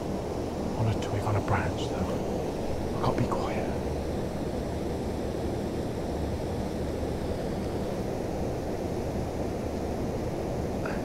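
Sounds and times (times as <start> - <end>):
low rushing outdoor noise: 0.0 - 11.0.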